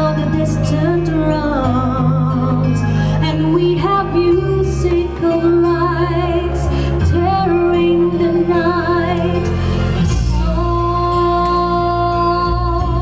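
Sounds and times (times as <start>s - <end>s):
amplified accompaniment: 0.0s - 13.0s
woman singing through pa: 0.0s - 13.0s.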